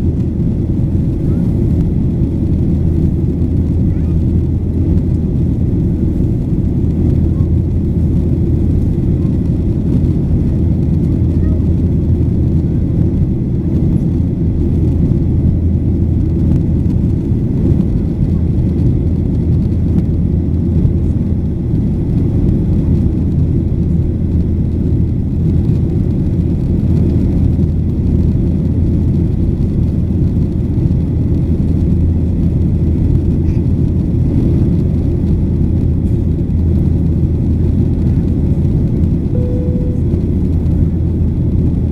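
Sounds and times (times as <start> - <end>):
airplane cabin engine rumble: 0.0 - 41.9.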